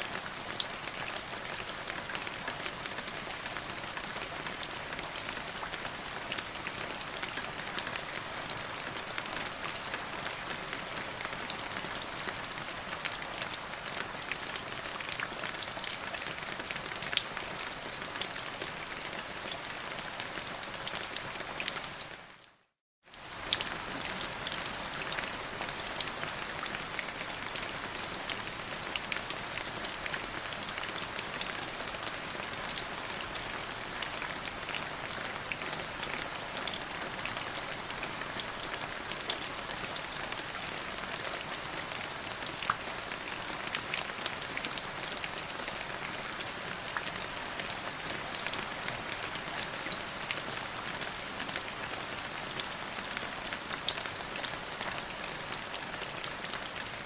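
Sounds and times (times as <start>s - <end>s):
steady rainfall: 0.0s - 57.0s
raindrops ticking on a surface: 0.1s - 22.3s, 23.1s - 57.0s.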